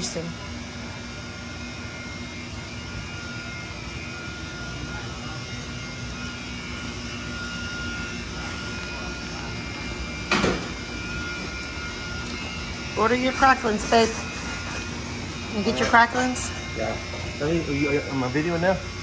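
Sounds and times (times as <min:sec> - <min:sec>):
machinery hum: 0:00.0 - 0:19.0.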